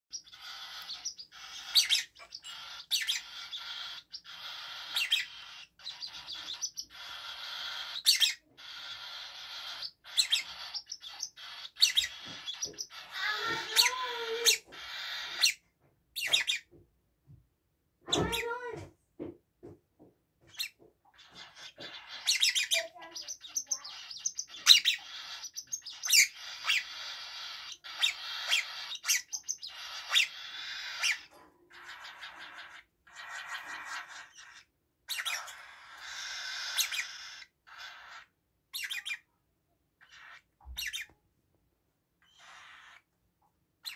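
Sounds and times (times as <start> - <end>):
parrots chirping: 0.1 - 16.8, 18.0 - 18.9, 20.4 - 39.4, 40.0 - 41.2, 42.2 - 43.2.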